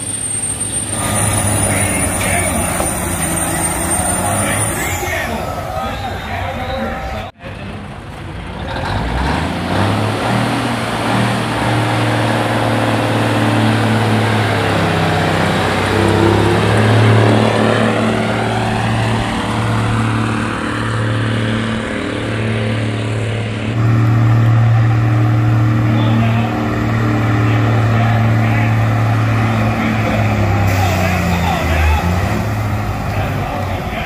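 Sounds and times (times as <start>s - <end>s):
diesel truck engine under load: 0.0s - 34.0s.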